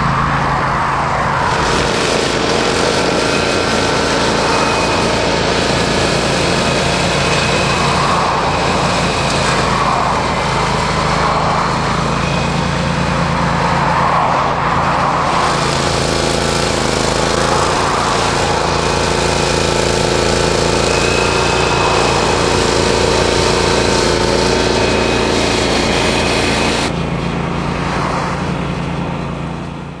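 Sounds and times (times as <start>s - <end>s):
flail rotor cutting grass: 0.0s - 30.0s
mower petrol engine: 0.0s - 30.0s.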